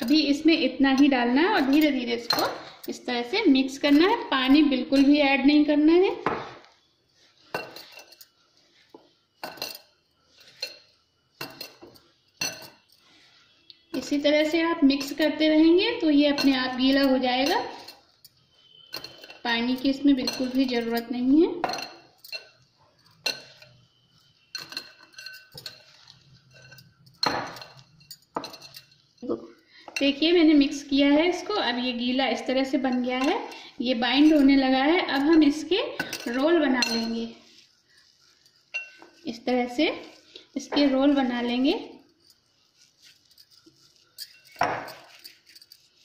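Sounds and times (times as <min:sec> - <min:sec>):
metal bangles clinking: 0:00.0 - 0:46.0.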